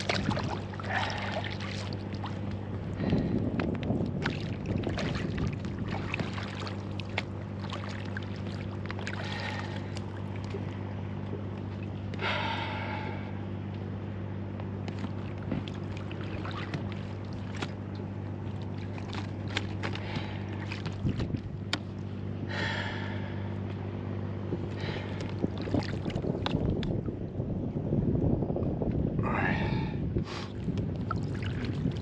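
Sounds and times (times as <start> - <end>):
waves slapping boat hull: 0.0 - 13.0, 14.6 - 23.8, 24.5 - 27.3, 30.5 - 32.0
small boat motor humming: 0.0 - 32.0.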